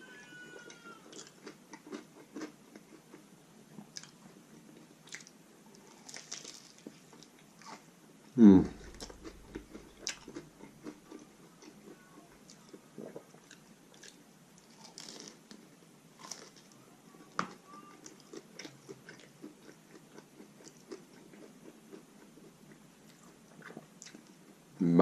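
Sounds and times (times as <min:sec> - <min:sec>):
chewing crunchy taco shell: 0:00.2 - 0:08.0, 0:08.8 - 0:24.7.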